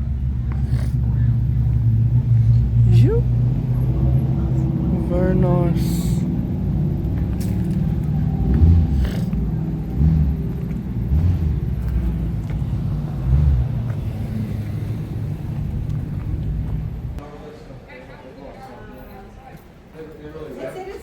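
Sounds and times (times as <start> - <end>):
car engine idling: 0.0 - 17.2.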